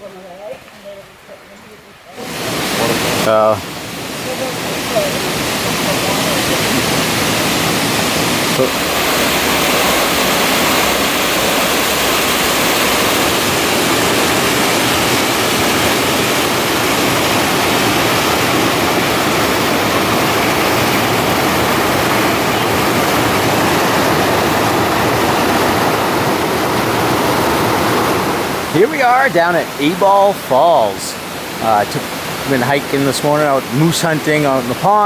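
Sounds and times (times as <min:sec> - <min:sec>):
small waterfall rushing: 0:00.0 - 0:35.0.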